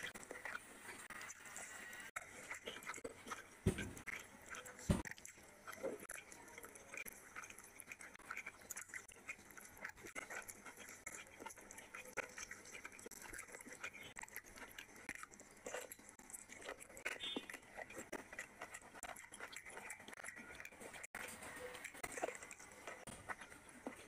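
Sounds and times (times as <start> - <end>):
chewing: 0.0 - 24.0
fingers squishing wet food: 0.0 - 24.0.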